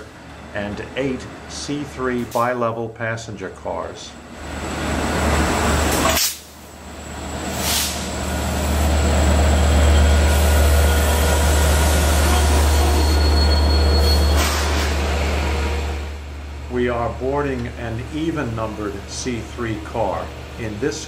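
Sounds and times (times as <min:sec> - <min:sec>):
diesel train running: 0:00.0 - 0:21.0.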